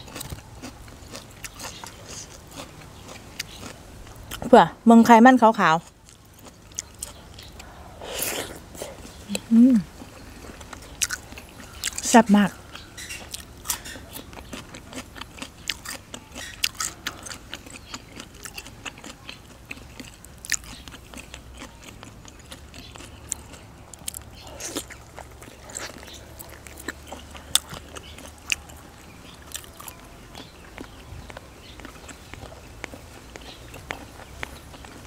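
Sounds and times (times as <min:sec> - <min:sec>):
crisp chewing crunches: 0:00.0 - 0:04.5, 0:05.8 - 0:35.0.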